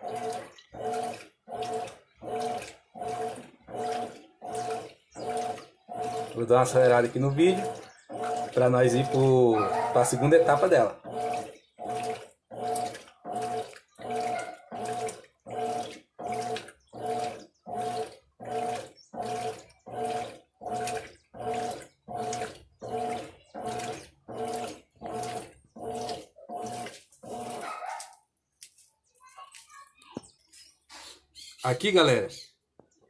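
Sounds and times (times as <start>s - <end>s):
washing machine motor humming: 0.0s - 28.1s
water churning: 0.0s - 28.2s.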